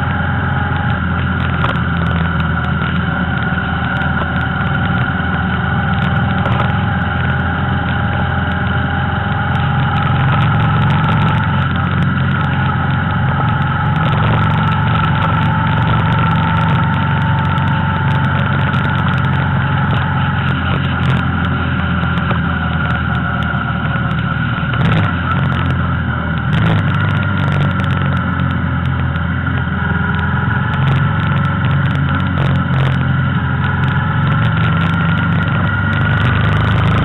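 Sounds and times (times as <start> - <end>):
road noise: 0.0 - 37.0
vehicle engine drone: 0.0 - 37.0.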